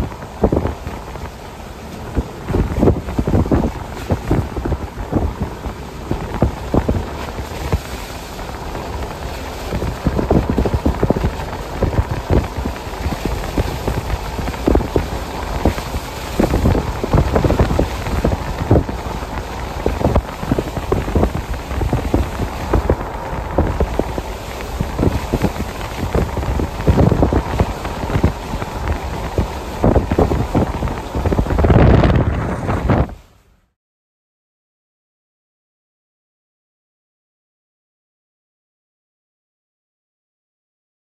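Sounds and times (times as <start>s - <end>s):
train wheels rumbling on rails: 0.0s - 33.2s.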